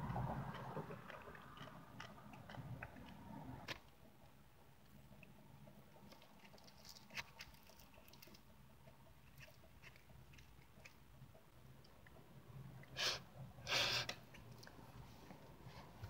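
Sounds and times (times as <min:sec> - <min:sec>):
quiet chewing: 0:00.0 - 0:13.0.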